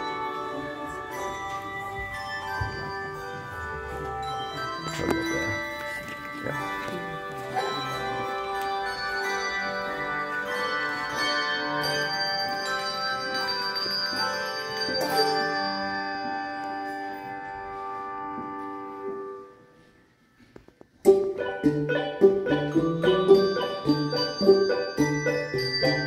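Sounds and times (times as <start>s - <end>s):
handbell choir ringing chords: 0.0s - 17.8s, 21.4s - 26.0s.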